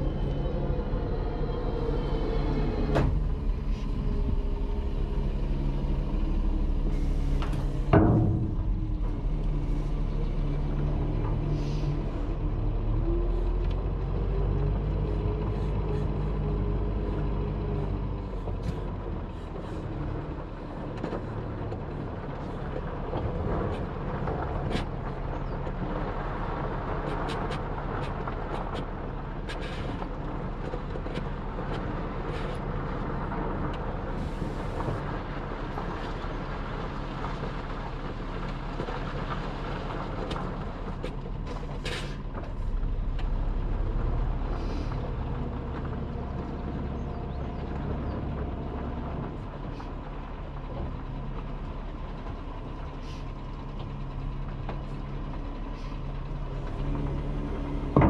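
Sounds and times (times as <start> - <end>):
engine ticks and knocks: 0.0 - 58.0
truck diesel engine running: 0.0 - 58.0.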